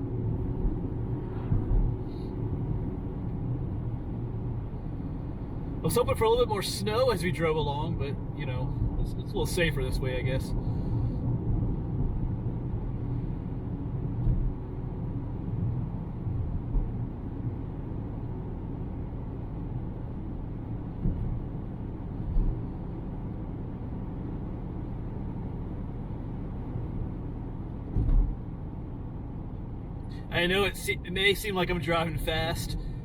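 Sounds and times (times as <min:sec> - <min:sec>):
car tyres and engine rumble: 0:00.0 - 0:33.0.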